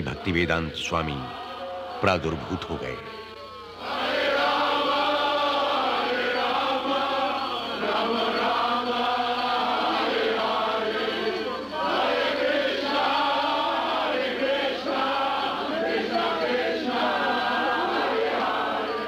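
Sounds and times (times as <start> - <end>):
group chanting: 0.0 - 19.0.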